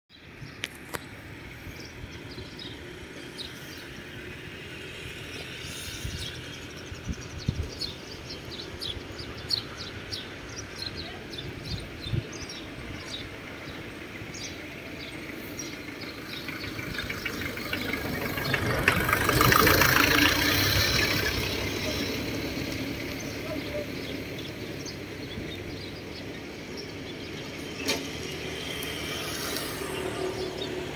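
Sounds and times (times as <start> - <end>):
small birds chirping: 0.1 - 30.9
outdoor background rumble: 0.2 - 30.9.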